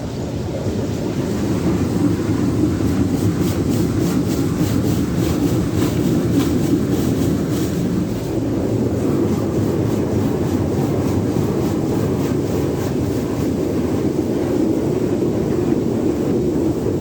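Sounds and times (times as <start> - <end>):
car wash rumbling: 0.0 - 17.0.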